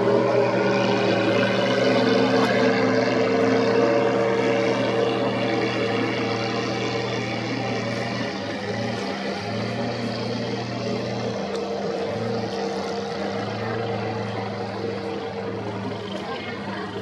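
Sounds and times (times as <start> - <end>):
racing boat engines droning: 0.0 - 17.0.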